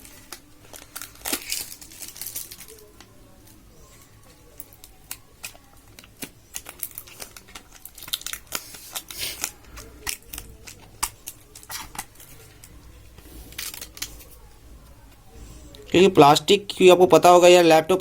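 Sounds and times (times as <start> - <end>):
plastic sheet crinkling: 0.0 - 14.6.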